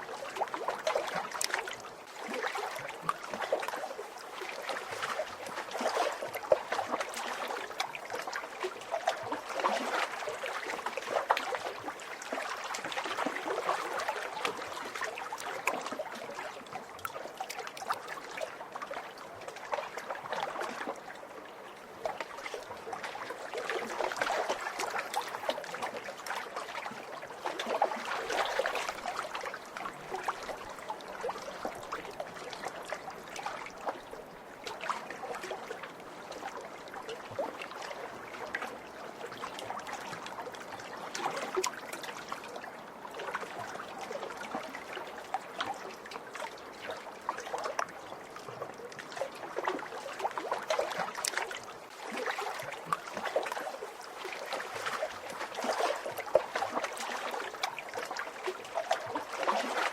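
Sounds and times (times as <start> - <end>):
small waves lapping at shore: 0.0 - 59.9.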